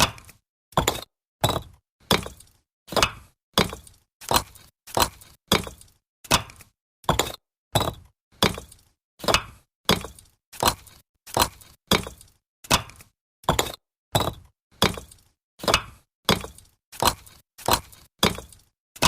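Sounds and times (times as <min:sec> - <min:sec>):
bricks knocking together: 0:00.0 - 0:18.6.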